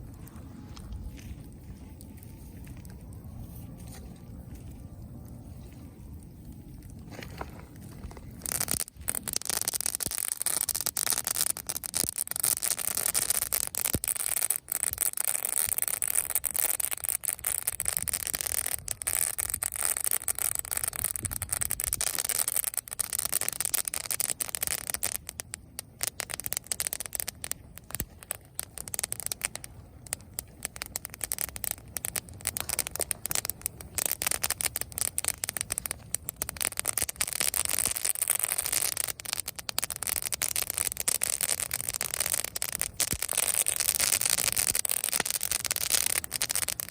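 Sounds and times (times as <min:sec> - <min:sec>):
bonfire crackling: 0:00.0 - 0:46.9.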